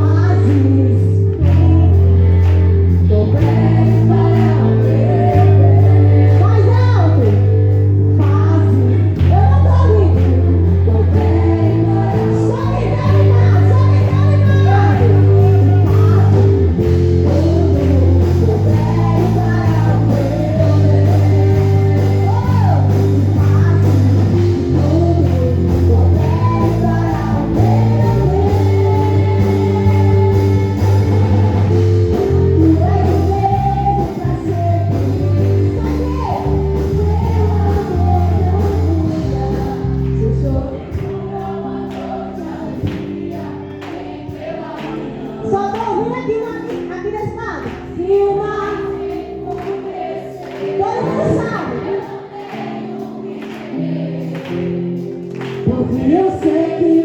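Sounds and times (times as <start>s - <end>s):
band with strong bass line: 0.0s - 49.9s
gospel singers: 0.0s - 57.0s.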